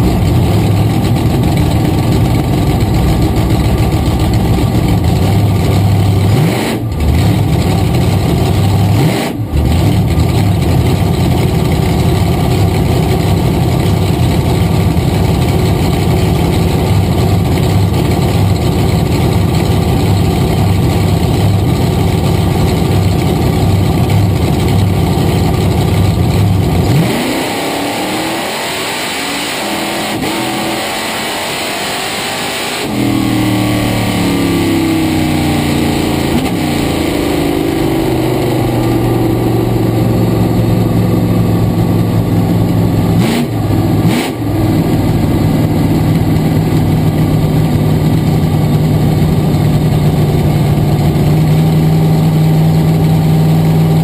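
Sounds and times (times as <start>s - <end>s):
drag car engine revving: 0.0s - 54.0s.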